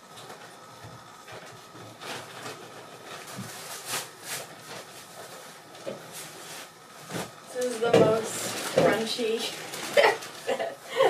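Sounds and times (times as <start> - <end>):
bedding rustling: 0.3 - 11.0.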